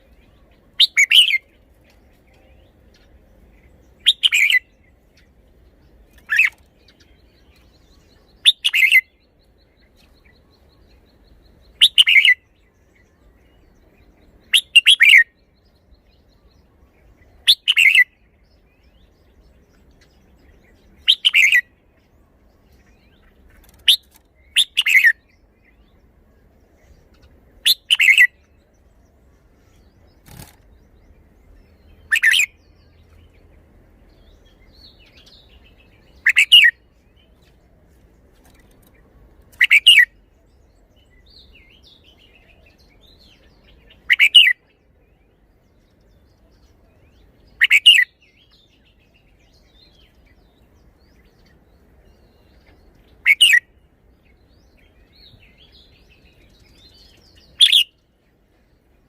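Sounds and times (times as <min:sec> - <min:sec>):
bird song phrases: 0:00.0 - 0:59.0
soft bird chirps: 0:00.0 - 0:59.0.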